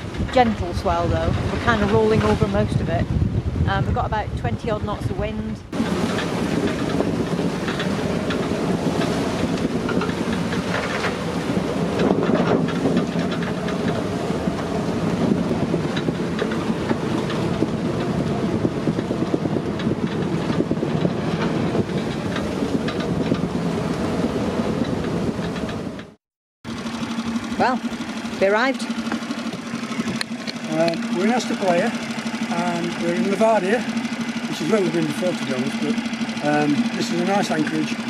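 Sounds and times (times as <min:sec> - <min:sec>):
wind buffeting microphone: 0:00.0 - 0:26.2, 0:26.8 - 0:38.0
boat knocks and rattles: 0:00.0 - 0:38.0
water rushing past hull: 0:00.0 - 0:38.0.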